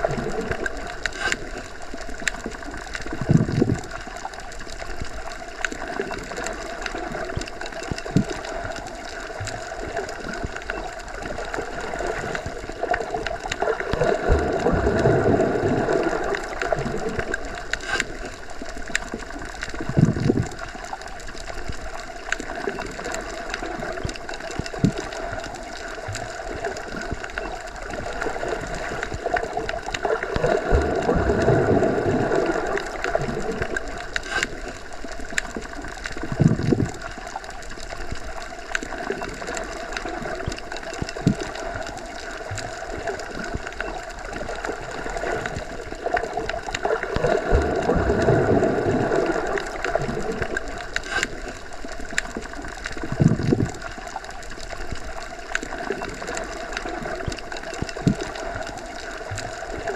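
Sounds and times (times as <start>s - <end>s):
muffled underwater wash: 0.0s - 59.9s.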